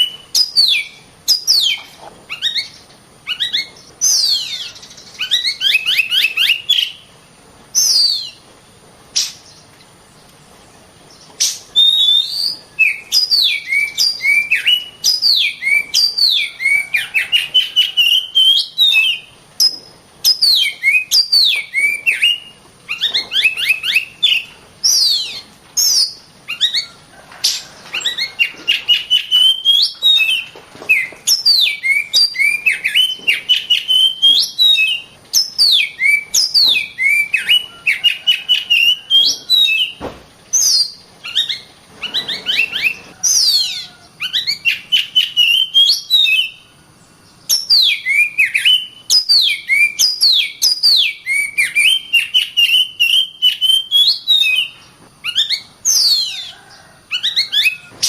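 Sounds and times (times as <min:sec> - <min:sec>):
bird singing whistled phrases: 0:00.0 - 0:07.0, 0:07.8 - 0:08.4, 0:11.4 - 0:27.0, 0:28.0 - 0:40.0, 0:40.6 - 0:46.7, 0:47.5 - 0:57.9.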